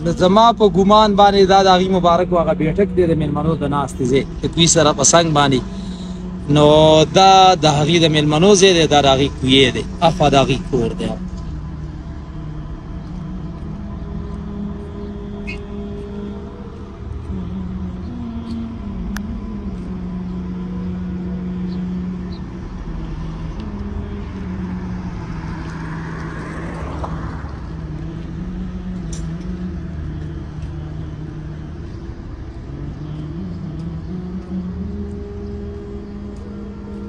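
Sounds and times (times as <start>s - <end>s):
vehicle engine running: 0.0s - 37.0s
vehicle passing: 0.0s - 37.0s.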